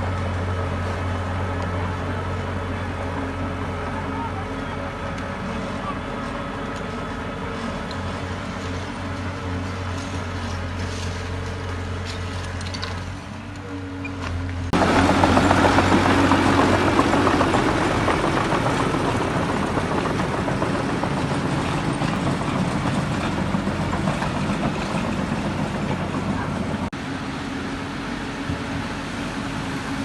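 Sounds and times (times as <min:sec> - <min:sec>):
diesel machinery engine hum: 0:00.0 - 0:30.0.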